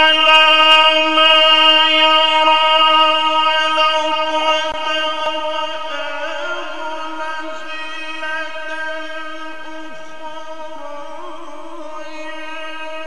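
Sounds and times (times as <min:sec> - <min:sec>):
man reciting with heavy echo: 0:00.0 - 0:13.0.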